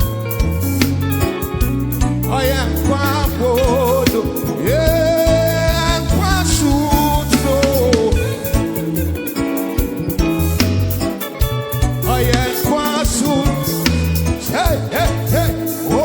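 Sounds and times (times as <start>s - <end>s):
steady bass line: 0.0s - 16.0s.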